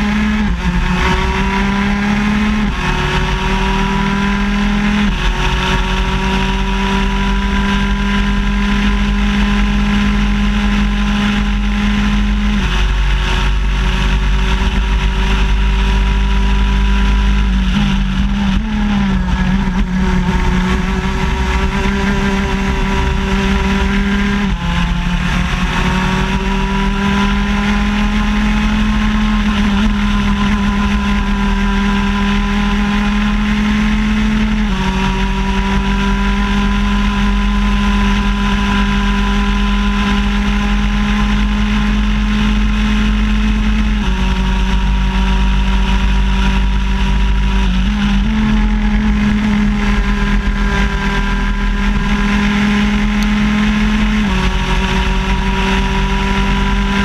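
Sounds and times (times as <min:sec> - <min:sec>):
two-stroke kart engine at high revs: 0:00.0 - 0:57.0.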